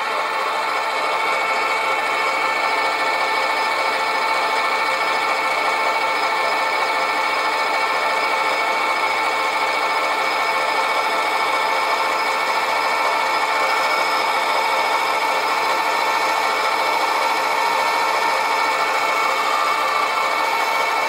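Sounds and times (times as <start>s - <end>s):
lathe whining: 0.0s - 21.0s.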